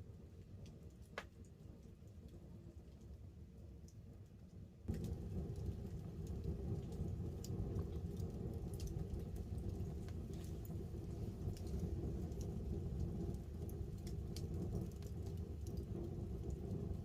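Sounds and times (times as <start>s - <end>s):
light rain on a tarp: 0.0s - 17.0s
wood fire crackling: 0.1s - 17.0s.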